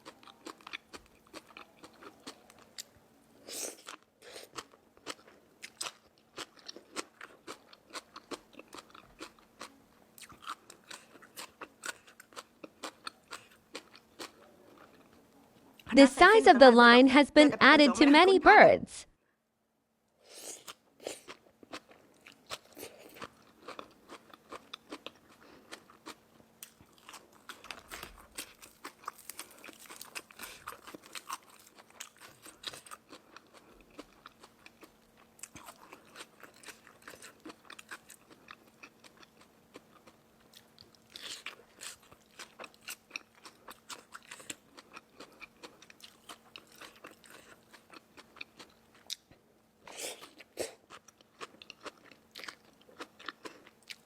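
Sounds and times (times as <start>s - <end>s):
chewing crispy food: 0.0s - 15.9s, 20.4s - 54.0s.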